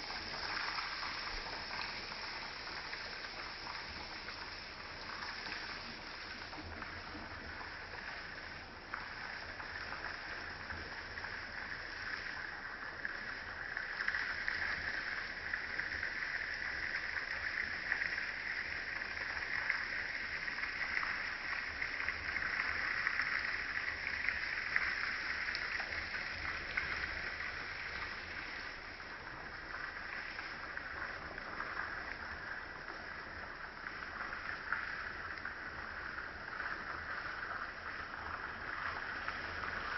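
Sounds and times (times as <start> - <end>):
shallow stream babbling over rocks: 0.0 - 39.9.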